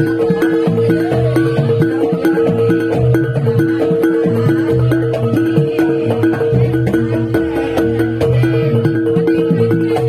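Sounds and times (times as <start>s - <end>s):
drum strokes: 0.0s - 10.0s
gamelan metal notes: 0.0s - 10.0s.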